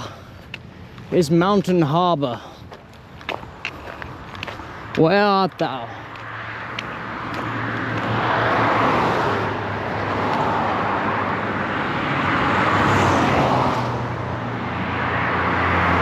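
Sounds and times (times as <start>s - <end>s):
vehicles passing on highway: 0.0s - 16.0s.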